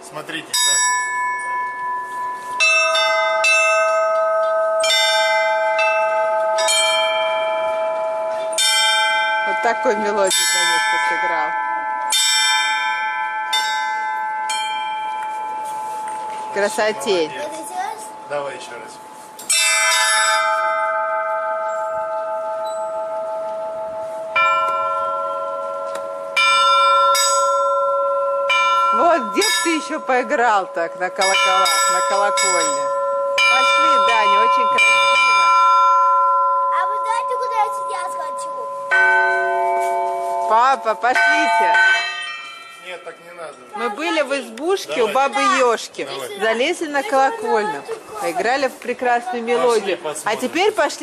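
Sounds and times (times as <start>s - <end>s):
bells ringing a tune: 0.2s - 51.0s.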